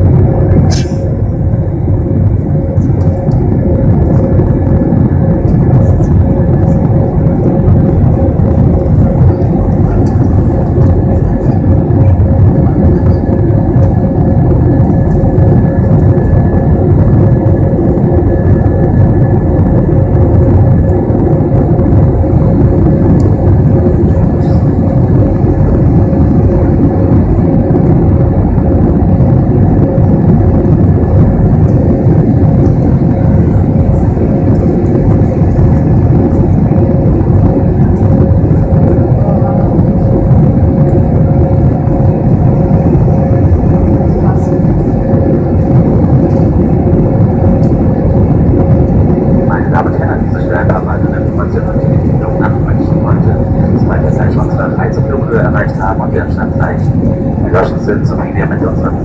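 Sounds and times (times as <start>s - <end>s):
airliner engines droning: 0.0s - 59.0s
mid-pitched hum: 0.0s - 59.0s
rushing air: 0.0s - 59.0s.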